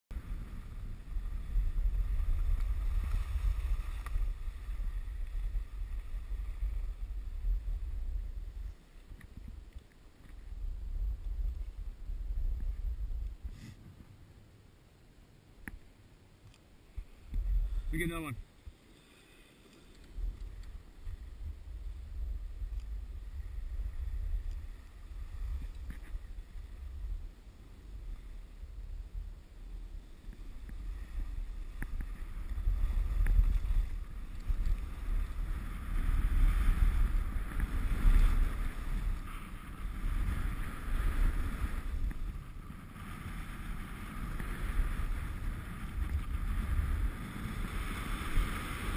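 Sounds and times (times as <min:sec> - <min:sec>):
wind buffeting microphone: 0:00.1 - 0:14.3, 0:20.1 - 0:48.9
skis sliding over snow: 0:00.2 - 0:14.1, 0:17.4 - 0:48.9.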